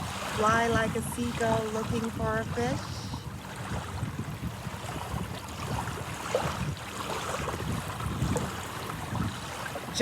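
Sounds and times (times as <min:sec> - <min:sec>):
surf washing: 0:00.0 - 0:10.0
wind gusting over microphone: 0:00.0 - 0:10.0.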